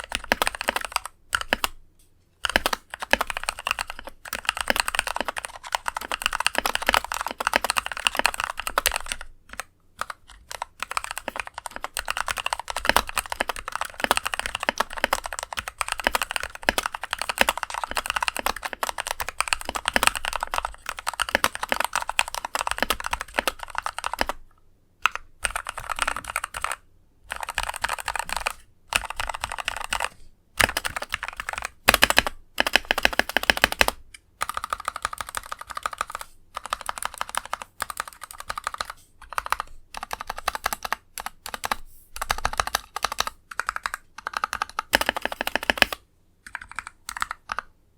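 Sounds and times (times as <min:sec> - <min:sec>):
mechanical keyboard typing: 0:00.0 - 0:01.8, 0:02.4 - 0:24.4, 0:25.0 - 0:47.8.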